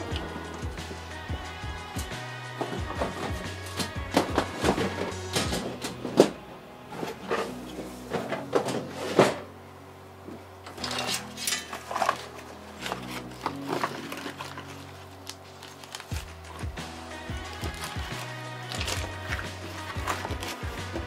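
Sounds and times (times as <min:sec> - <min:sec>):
quiet background music: 0:00.0 - 0:21.0.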